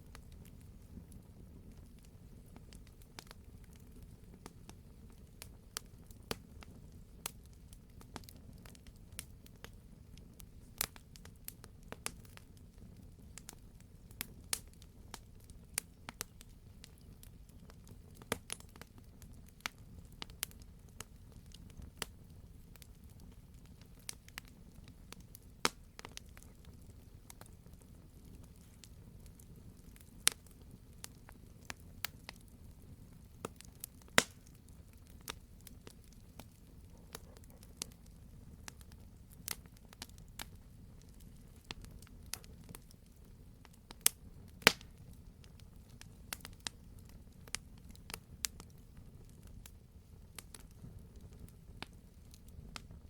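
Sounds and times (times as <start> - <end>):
fire crackles and pops: 0.0 - 53.0
wood fire rumbling: 0.0 - 53.0.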